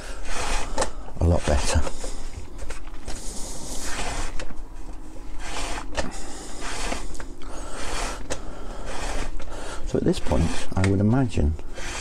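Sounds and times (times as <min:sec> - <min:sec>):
lacing rubbing through holes: 0:00.0 - 0:11.0, 0:11.6 - 0:12.0.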